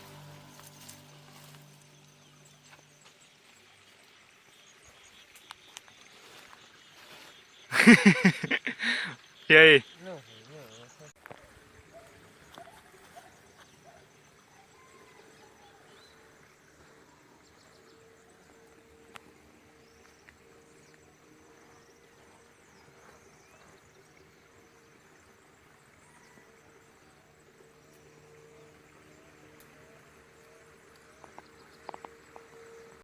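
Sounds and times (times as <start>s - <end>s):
insect drone: 0.0s - 10.5s, 11.2s - 33.0s.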